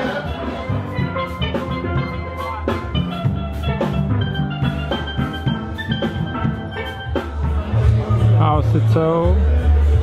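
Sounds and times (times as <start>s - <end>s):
steel pans playing melody: 0.0s - 9.4s
drum beat: 0.0s - 10.0s
low bass notes: 0.0s - 10.0s.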